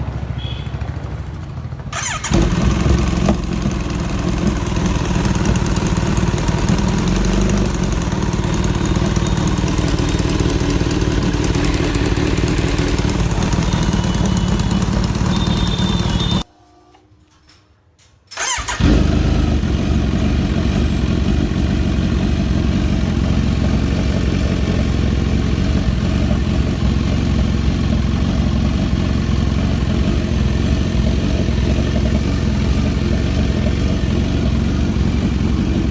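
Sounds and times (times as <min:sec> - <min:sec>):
motorcycle engine starting and idling: 0:00.0 - 0:16.5, 0:17.4 - 0:35.9.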